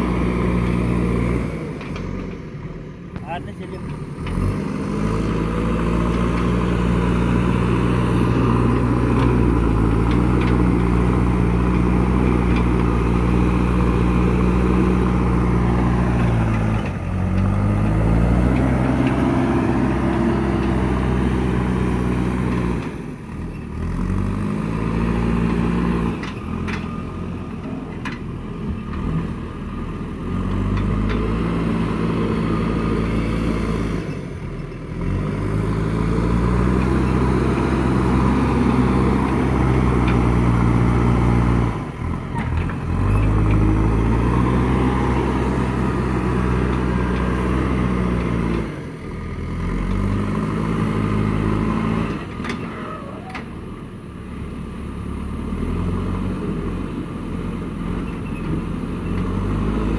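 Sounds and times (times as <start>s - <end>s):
diesel engine working under load: 0.0s - 59.9s.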